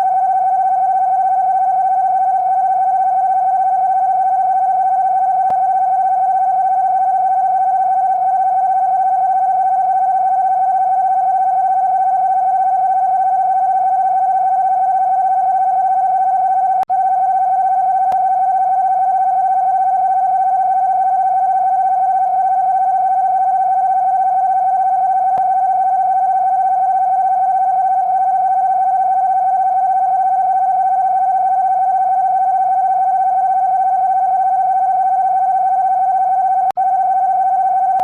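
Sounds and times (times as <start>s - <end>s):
electronic attention tone: 0.0s - 38.0s.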